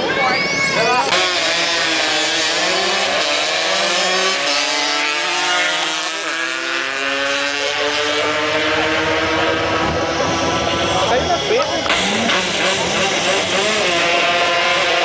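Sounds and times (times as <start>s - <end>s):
motorcycles accelerating hard: 0.7s - 15.0s.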